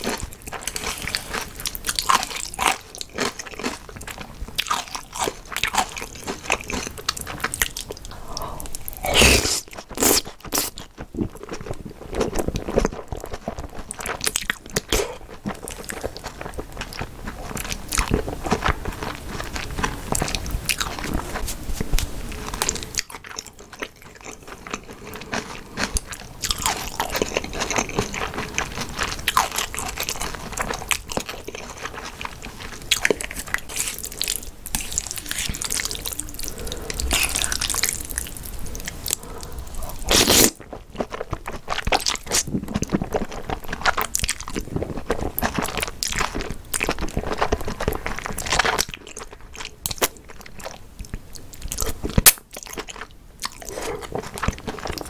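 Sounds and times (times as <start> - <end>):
wet chewing and smacking: 0.0 - 55.0.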